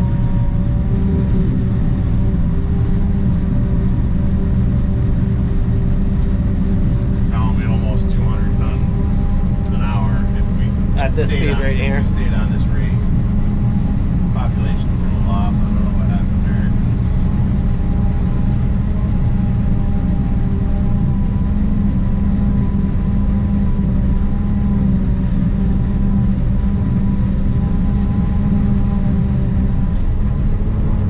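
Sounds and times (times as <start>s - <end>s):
constant high hum: 0.0s - 31.0s
harvester engine drone: 0.0s - 31.0s.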